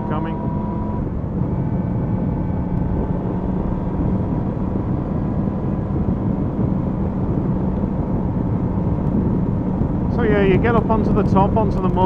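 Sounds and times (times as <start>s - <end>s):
motorcycle engine cruising: 0.0s - 12.0s
wind and road rush: 0.0s - 12.0s.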